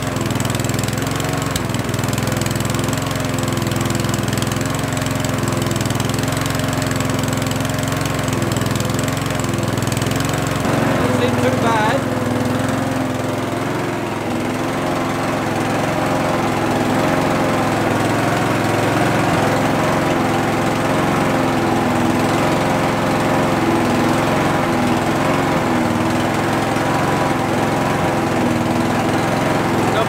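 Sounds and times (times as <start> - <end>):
lawnmower engine running: 0.0 - 30.0.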